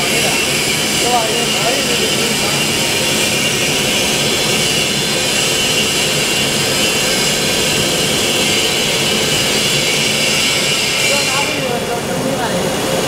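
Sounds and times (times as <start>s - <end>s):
production line machinery hiss: 0.0s - 13.0s.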